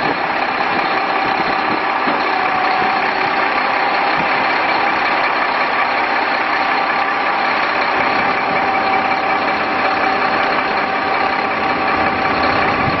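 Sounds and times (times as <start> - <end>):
diesel truck engine running: 0.0 - 13.0
steady high whine: 0.0 - 13.0.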